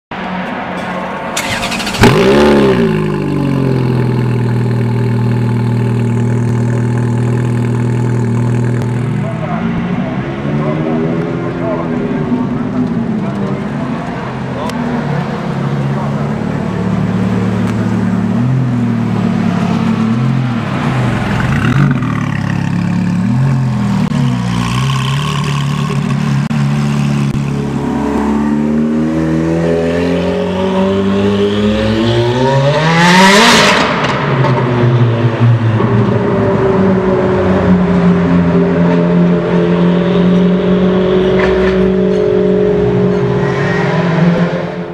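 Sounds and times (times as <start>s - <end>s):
sports car engine accelerating: 1.4s - 44.9s.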